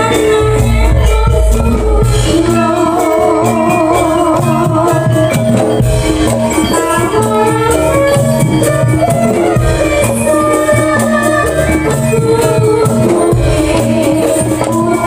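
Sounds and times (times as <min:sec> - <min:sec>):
gamelan ensemble dance music: 0:00.0 - 0:15.0.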